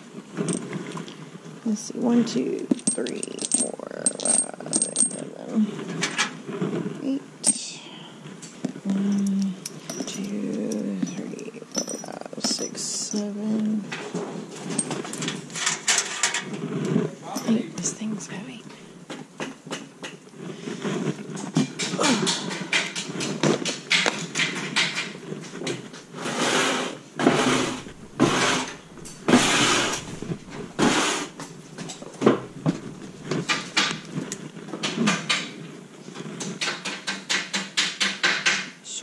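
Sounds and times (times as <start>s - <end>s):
objects clattering and knocking: 0.0s - 1.3s, 2.0s - 7.6s, 8.4s - 18.4s, 19.0s - 38.8s
rustling and scraping: 0.0s - 7.6s, 8.3s - 36.8s.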